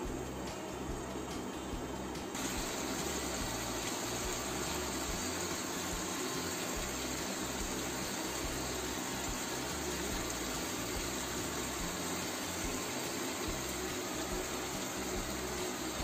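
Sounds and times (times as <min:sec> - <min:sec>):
sauce simmering in a pan: 0:02.4 - 0:16.0.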